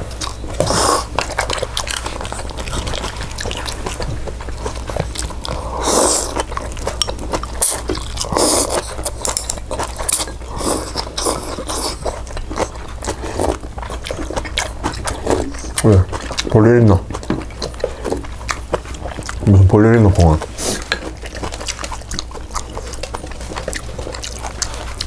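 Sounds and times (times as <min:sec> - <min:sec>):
chewing and biting food: 0:00.0 - 0:25.0
noisy smacking: 0:00.0 - 0:25.0.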